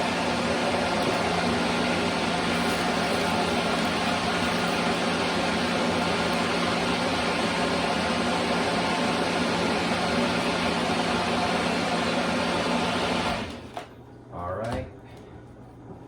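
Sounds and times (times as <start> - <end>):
blender motor whirring: 0.0 - 13.8.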